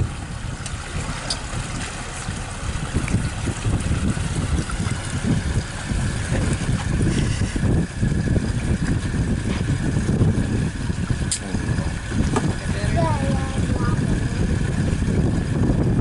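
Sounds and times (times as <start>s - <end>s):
boat rushing through water: 0.0s - 16.0s
wind buffeting microphone: 0.0s - 16.0s.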